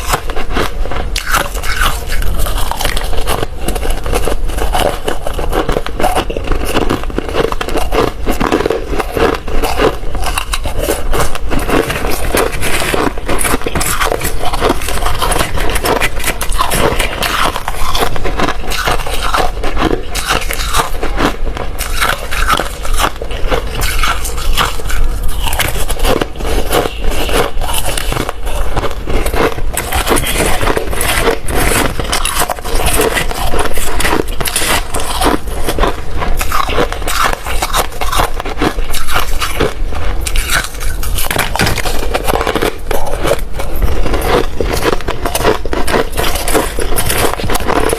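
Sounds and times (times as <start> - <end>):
ice being chewed crunching: 0.0 - 47.9.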